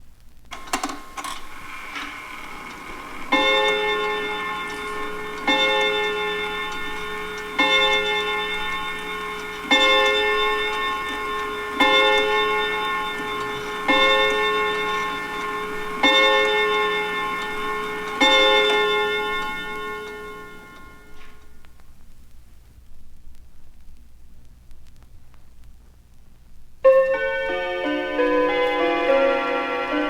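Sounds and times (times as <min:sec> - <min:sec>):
faint vinyl hum: 0:00.0 - 0:30.0
clock chime strokes: 0:00.5 - 0:21.6, 0:26.9 - 0:30.0.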